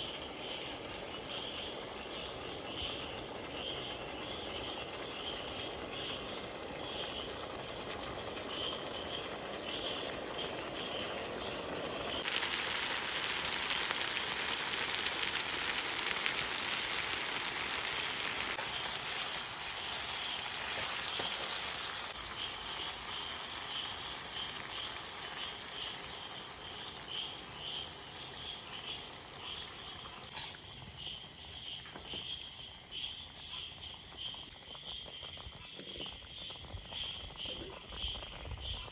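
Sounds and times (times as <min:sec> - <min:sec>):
high rapid insect-like chirping: 0:00.0 - 0:38.9.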